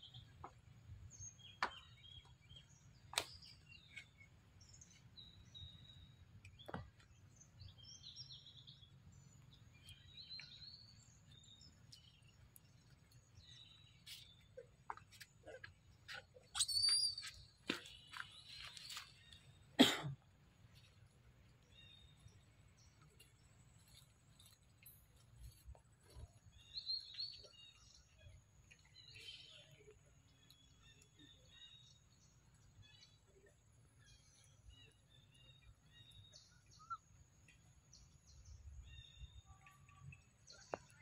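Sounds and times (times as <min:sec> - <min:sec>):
small birds chirping: 0:00.0 - 0:19.8, 0:20.6 - 0:41.0.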